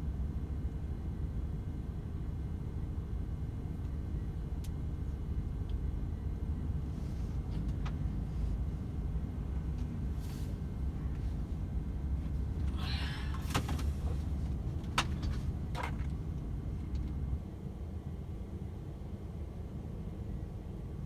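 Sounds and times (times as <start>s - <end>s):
lorry engine and road noise: 2.2s - 21.0s.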